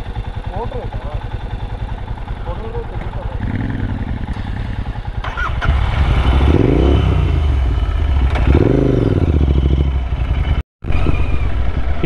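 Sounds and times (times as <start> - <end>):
vehicle engine revving: 2.2 - 12.0.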